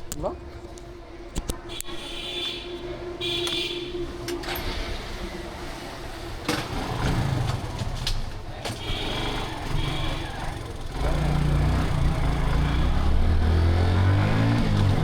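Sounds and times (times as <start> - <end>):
motorcycle engine rumble: 0.0 - 15.0
street noise: 0.0 - 15.0.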